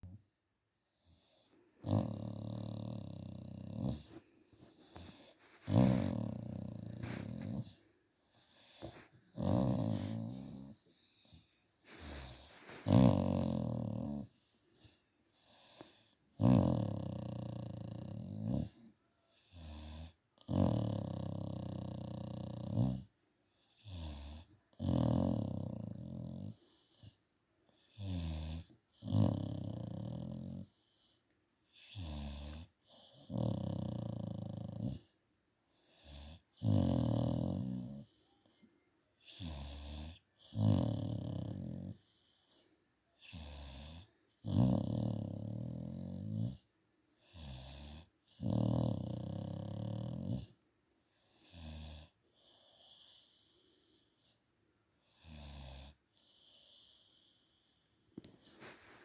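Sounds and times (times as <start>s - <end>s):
dog snoring: 1.0s - 27.2s, 27.8s - 35.1s, 35.8s - 38.2s, 39.2s - 50.6s, 51.2s - 53.5s, 55.0s - 57.4s.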